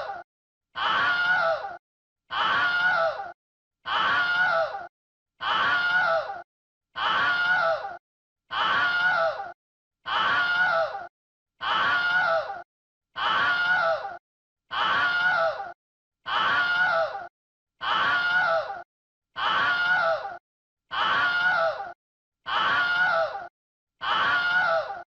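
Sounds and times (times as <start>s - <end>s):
person screaming: 0.8s - 3.3s, 3.9s - 6.4s, 7.0s - 12.6s, 13.2s - 18.8s, 19.4s - 25.0s.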